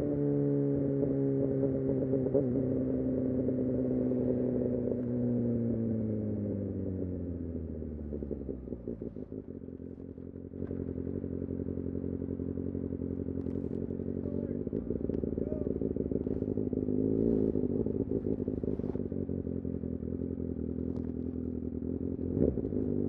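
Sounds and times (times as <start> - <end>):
motorcycle engine decelerating: 0.0 - 23.0.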